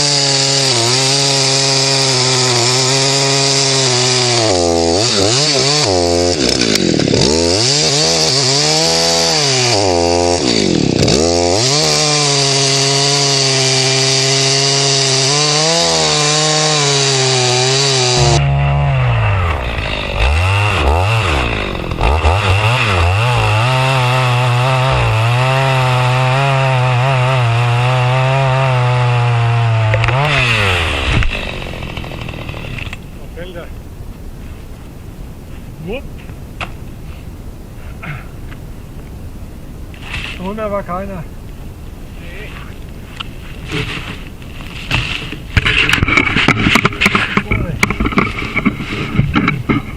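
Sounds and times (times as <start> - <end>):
chainsaw cutting tree trunk: 0.0 - 33.7, 42.8 - 49.9.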